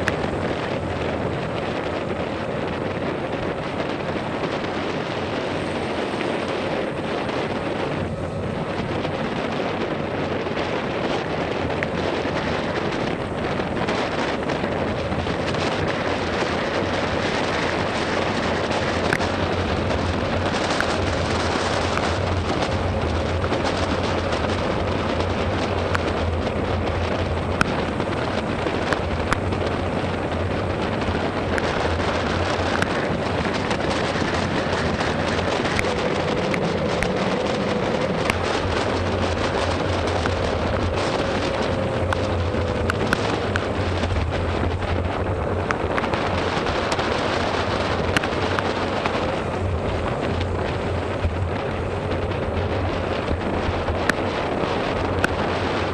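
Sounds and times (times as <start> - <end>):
low motorcycle drone: 0.0 - 55.9
raindrops tapping microphone: 0.0 - 55.9
wind and rain on microphone: 0.0 - 55.9.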